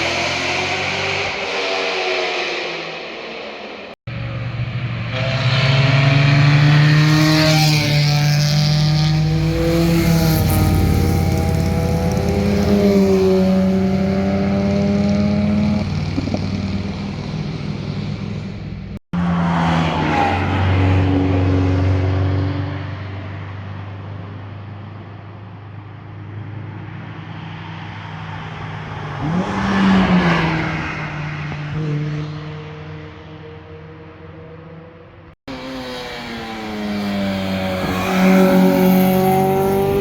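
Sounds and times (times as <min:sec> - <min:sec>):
cars revving past: 0:00.0 - 0:24.0, 0:26.2 - 0:34.8, 0:35.5 - 0:40.0.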